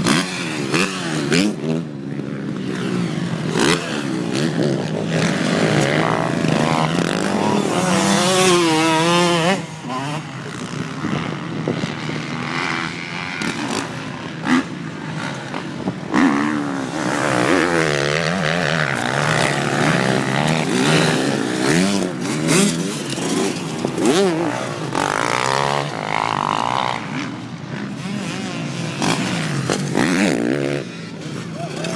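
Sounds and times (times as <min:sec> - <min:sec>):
motorcycle engines revving: 0:00.0 - 0:31.9.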